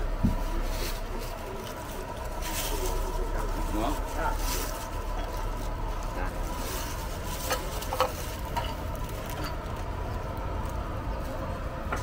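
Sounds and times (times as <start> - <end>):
low traffic rumble: 0.0 - 12.0
plastic bags rustling: 0.4 - 10.9.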